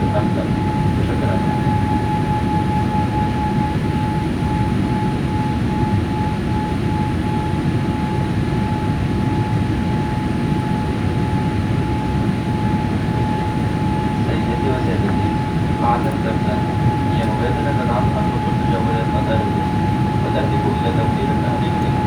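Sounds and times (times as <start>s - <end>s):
jet engine and airflow rumble: 0.0s - 22.0s
thin steady whine: 0.0s - 22.0s.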